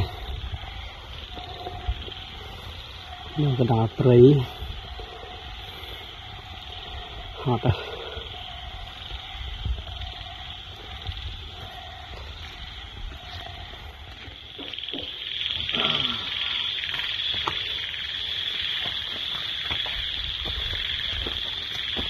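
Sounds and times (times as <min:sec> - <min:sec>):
frogs trilling: 0:00.0 - 0:22.0
short frog calls: 0:00.0 - 0:22.0.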